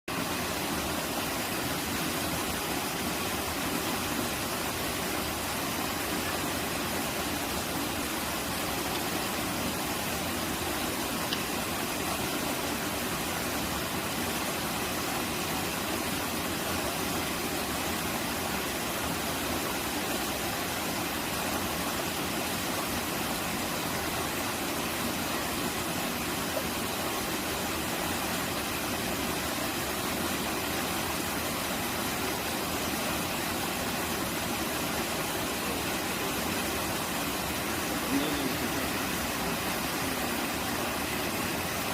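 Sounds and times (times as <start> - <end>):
stream rushing over rocks: 0.1 - 41.9.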